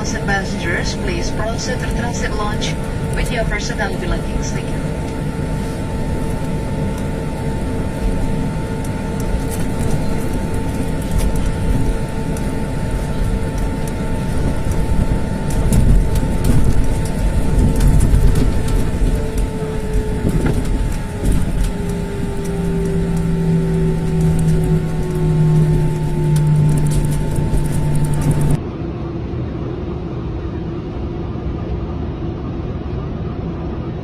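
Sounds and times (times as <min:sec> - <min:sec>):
jet cabin low rumble: 0:00.0 - 0:34.0
jet engine whine: 0:00.0 - 0:34.0.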